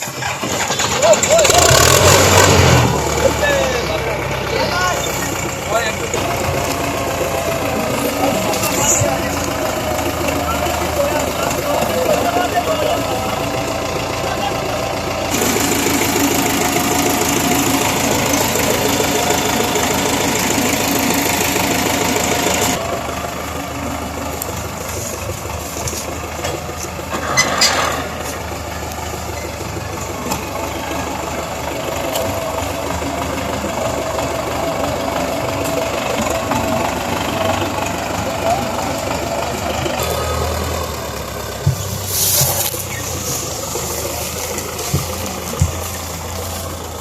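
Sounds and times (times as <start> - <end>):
tractor diesel engine running hard: 0.0 - 47.0.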